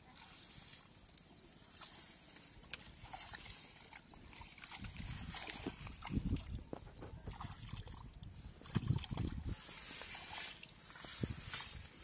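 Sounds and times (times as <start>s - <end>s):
footsteps through wet grass: 0.0s - 12.0s
water sloshing: 0.0s - 12.0s.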